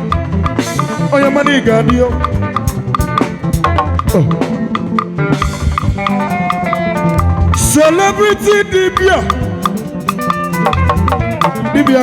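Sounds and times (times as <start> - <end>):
drum kit and percussion beat: 0.0 - 12.0
sustained melodic instrument notes: 0.0 - 12.0.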